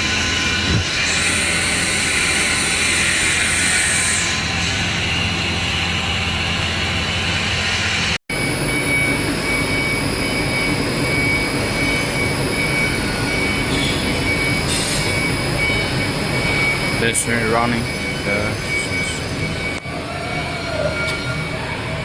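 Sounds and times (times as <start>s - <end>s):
high-pitched machine whine: 0.0s - 22.0s
machinery running: 0.0s - 22.0s.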